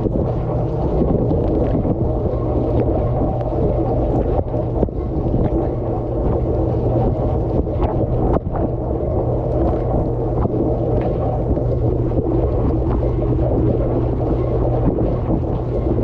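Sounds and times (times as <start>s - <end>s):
pump humming: 0.0s - 16.0s
water jets splashing over dishes: 0.0s - 16.0s.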